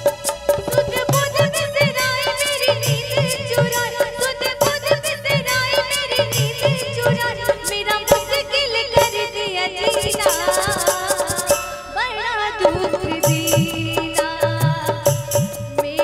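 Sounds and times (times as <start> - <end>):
quick steady percussion: 0.0 - 11.8, 12.7 - 16.0
woman singing into microphone: 0.6 - 16.0.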